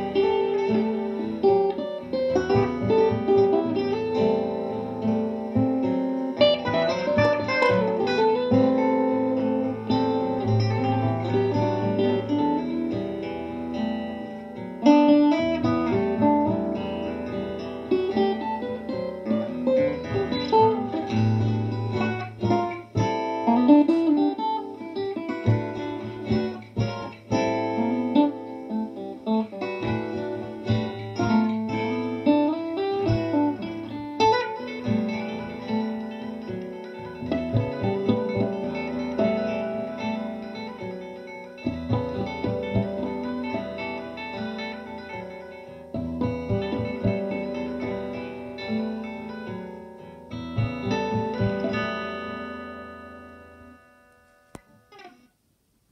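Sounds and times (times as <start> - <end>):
solo guitar plucking: 0.0 - 55.4.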